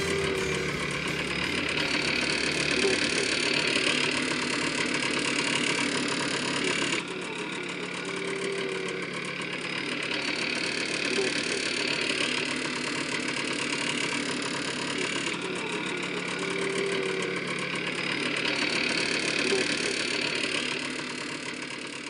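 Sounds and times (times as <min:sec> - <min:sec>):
moped engine running: 0:00.0 - 0:22.0.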